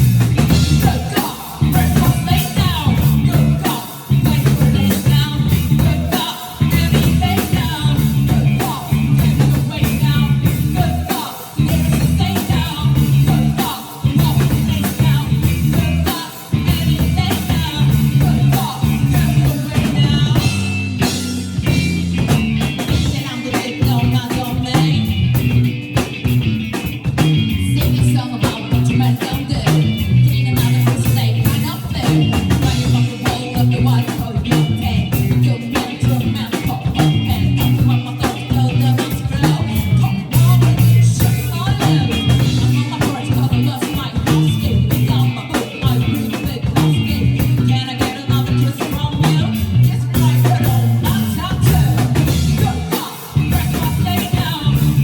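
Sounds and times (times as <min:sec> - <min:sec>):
bass guitar: 0:00.0 - 0:55.0
drum kit: 0:00.0 - 0:55.0
electric guitar: 0:00.0 - 0:55.0
person singing: 0:00.4 - 0:26.2, 0:27.0 - 0:55.0.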